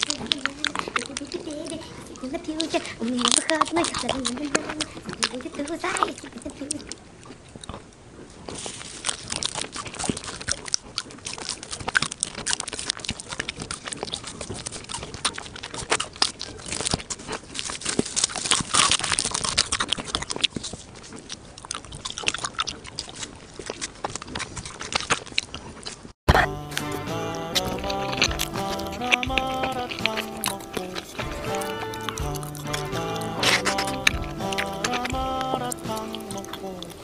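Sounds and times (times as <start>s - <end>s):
crunchy candy chewing: 0.0s - 37.0s.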